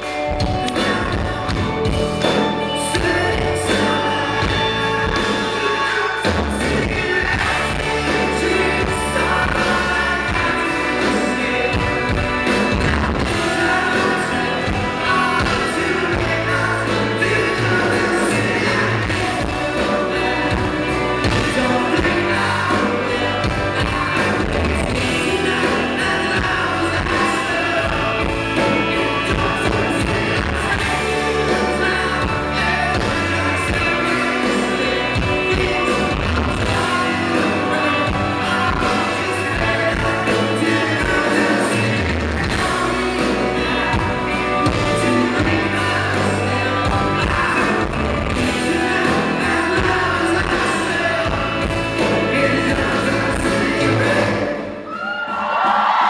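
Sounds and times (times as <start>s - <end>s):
steady bass: 0.0s - 54.6s
man singing: 0.0s - 55.0s
electric guitars: 0.0s - 56.0s.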